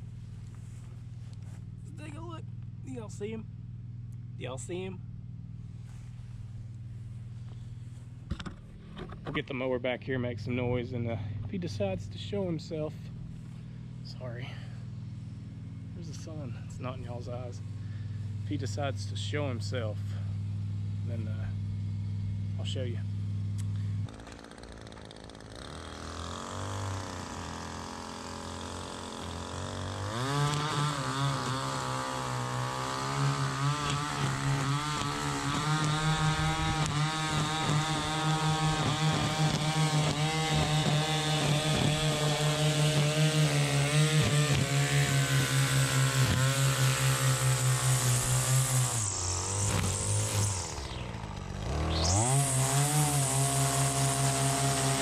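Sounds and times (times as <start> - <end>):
string trimmer engine revving: 10.5 - 55.0.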